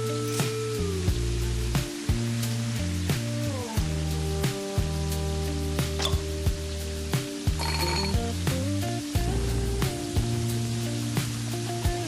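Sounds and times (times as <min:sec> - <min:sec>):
sustained bass and chords: 0:00.0 - 0:12.0.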